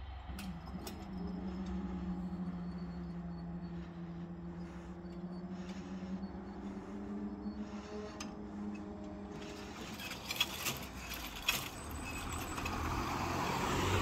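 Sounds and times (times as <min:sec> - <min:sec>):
barrier motors humming: 0:00.0 - 0:14.0.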